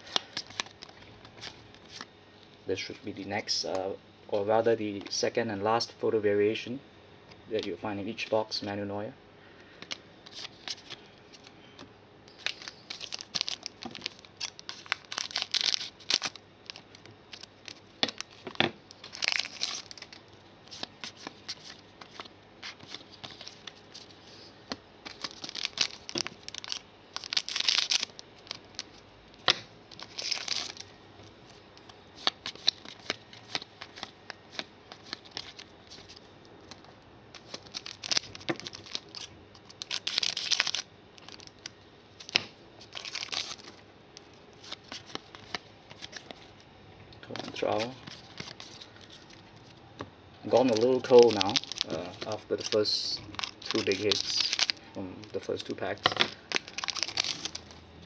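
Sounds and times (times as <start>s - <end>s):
cards rustling: 0.0s - 2.1s, 9.8s - 30.9s, 31.5s - 46.6s, 47.3s - 49.8s, 50.5s - 57.8s
foil packs crinkling and tearing: 0.0s - 2.1s, 9.8s - 11.5s, 12.3s - 24.1s, 25.0s - 46.4s, 47.3s - 49.4s, 50.4s - 57.9s.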